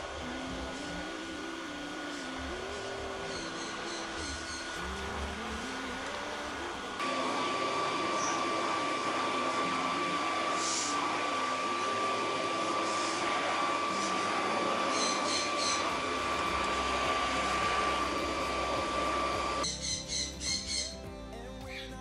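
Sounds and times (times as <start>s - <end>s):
vacuum cleaner motor whine: 0.0s - 20.7s.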